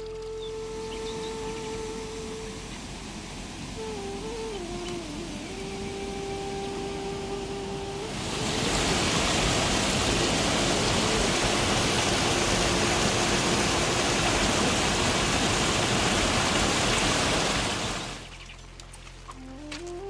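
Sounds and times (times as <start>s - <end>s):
heavy rain pouring: 0.7s - 18.3s.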